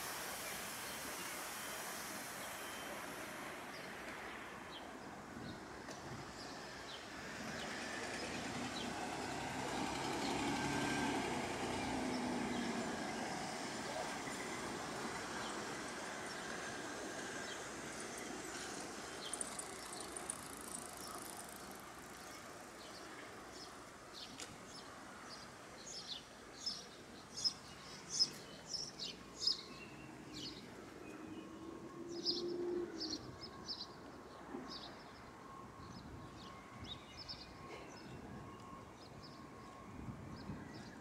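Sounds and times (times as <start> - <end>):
outdoor city noise: 0.0 - 41.0.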